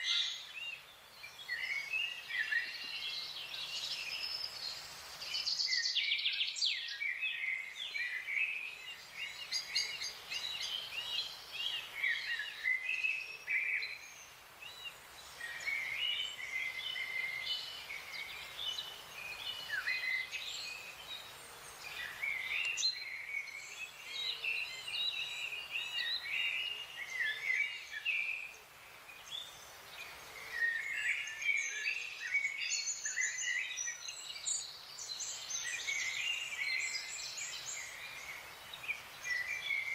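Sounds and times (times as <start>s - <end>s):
faint steady hiss: 0.0s - 39.9s
songbirds chirping and singing: 0.0s - 39.9s.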